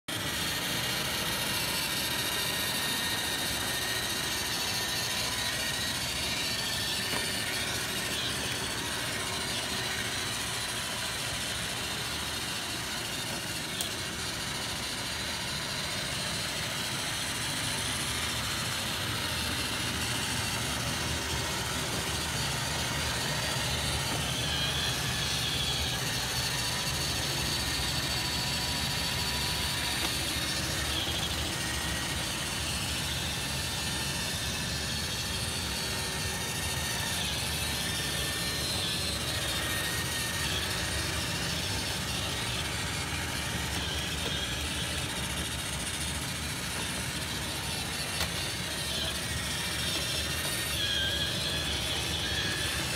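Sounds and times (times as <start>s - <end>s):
faint steady whine: 0.1s - 52.9s
robot vacuum whirring on carpet: 0.1s - 52.9s.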